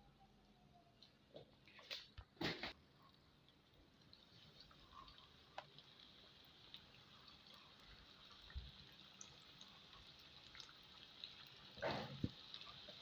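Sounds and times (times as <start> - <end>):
deep-frying sizzle: 1.0 - 13.0
oil popping and crackling: 1.0 - 13.0.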